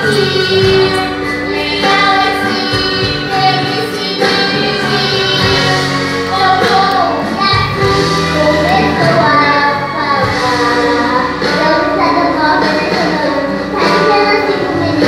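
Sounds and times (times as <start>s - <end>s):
electronic keyboard: 0.0s - 15.0s
girl singing into a microphone: 0.0s - 15.0s.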